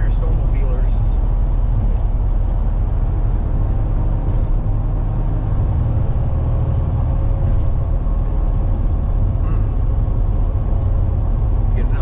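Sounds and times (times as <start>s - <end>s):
truck engine and tyre rumble: 0.0s - 12.0s.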